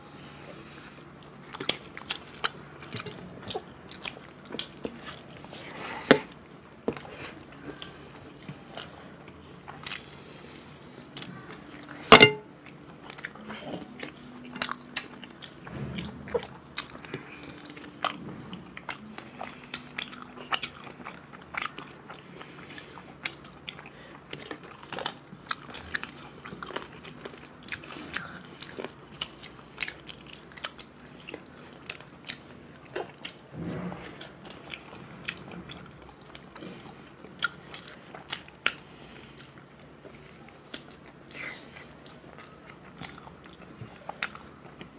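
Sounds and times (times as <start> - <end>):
people chewing: 0.0 - 44.9.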